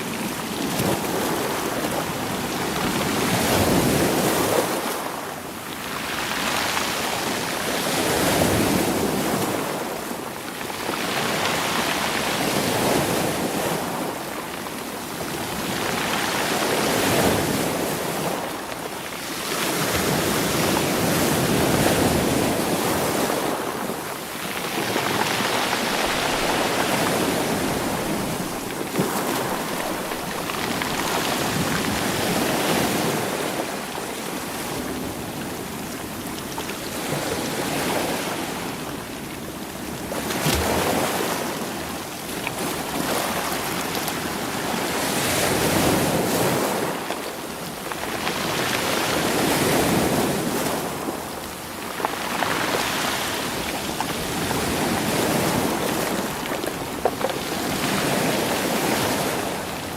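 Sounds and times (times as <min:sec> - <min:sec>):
sea waves over rolling stones: 0:00.0 - 0:59.9.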